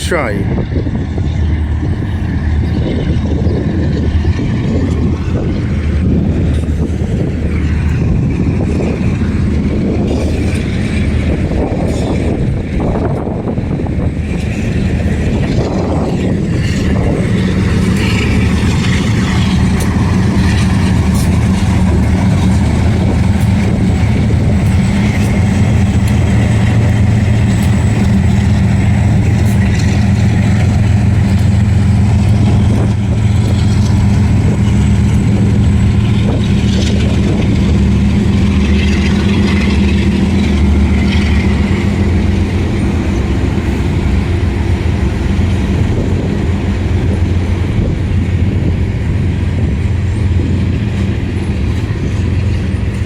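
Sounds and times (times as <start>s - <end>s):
diesel locomotive engines rumbling: 0.0s - 53.0s
wheels clicking and squeaking on rails: 0.0s - 53.0s.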